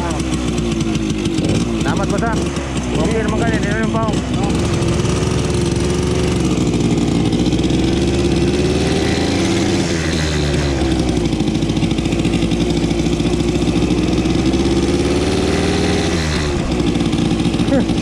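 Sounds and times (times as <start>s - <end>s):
motorcycle two-stroke engine: 0.0s - 18.0s.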